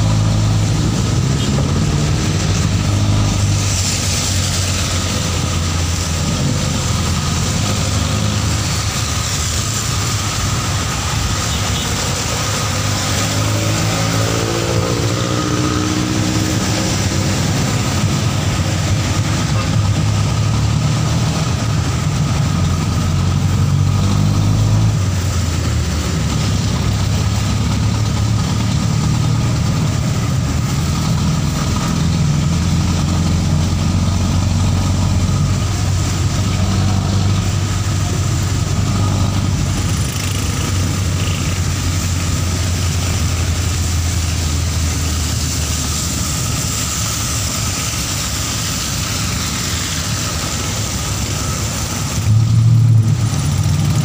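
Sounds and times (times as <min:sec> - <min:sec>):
tyres hissing on wet road: 0:00.0 - 0:54.0
vehicle engine running: 0:00.0 - 0:54.0.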